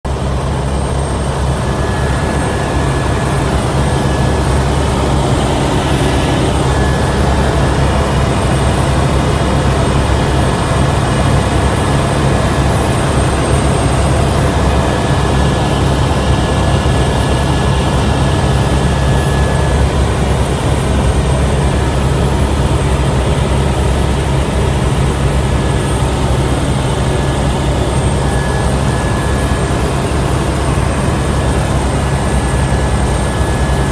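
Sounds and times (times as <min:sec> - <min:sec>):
helicopter rotor and engine rumble: 0:00.1 - 0:33.9
high turbine whine: 0:00.1 - 0:33.9.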